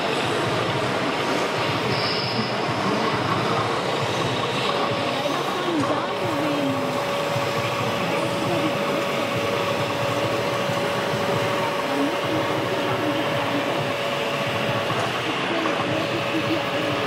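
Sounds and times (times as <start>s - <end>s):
noisy rumble: 0.0s - 17.0s.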